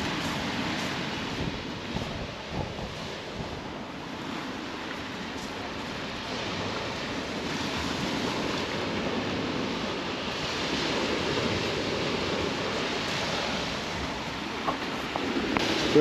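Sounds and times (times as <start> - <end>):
surf washing over shingle beach: 0.0 - 16.0
wind buffeting microphone: 0.0 - 16.0.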